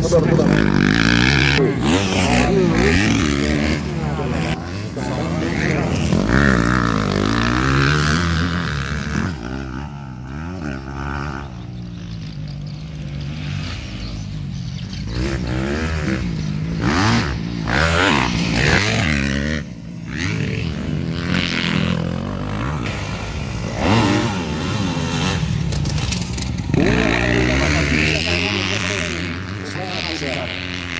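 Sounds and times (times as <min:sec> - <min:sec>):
racing motorcycles revving: 0:00.0 - 0:30.9.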